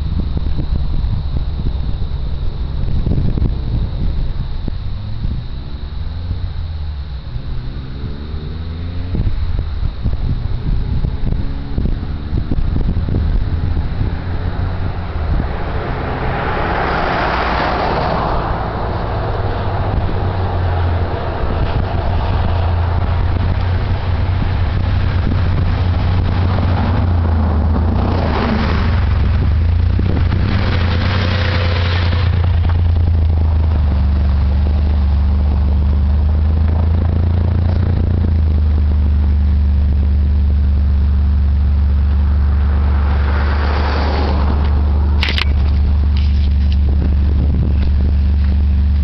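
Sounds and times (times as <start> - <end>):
engine low drone: 0.0 - 49.0.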